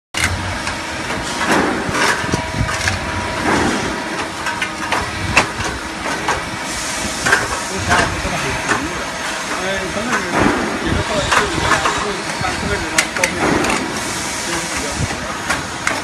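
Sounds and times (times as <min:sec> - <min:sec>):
metal clanks and knocks: 0:00.2 - 0:06.5, 0:07.1 - 0:14.0
steady machine hum: 0:00.2 - 0:16.0.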